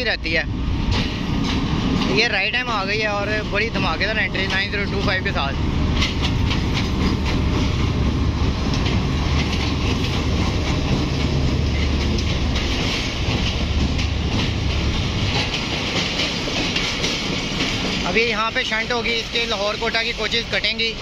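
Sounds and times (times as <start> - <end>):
locomotive engine drone: 0.0 - 21.0
train wheels clacking: 0.0 - 21.0.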